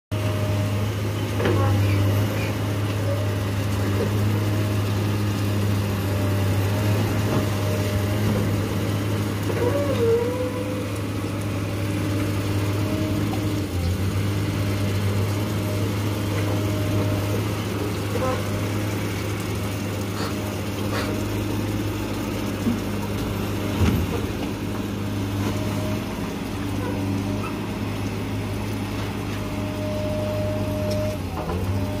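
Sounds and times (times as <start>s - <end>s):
diesel engine humming: 0.1s - 32.0s
excavator arm churning water: 0.1s - 32.0s.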